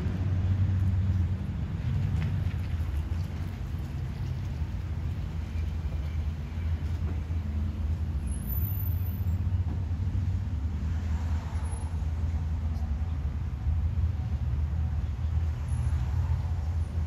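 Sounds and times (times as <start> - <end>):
low rumble of outdoor noise: 0.0 - 17.0.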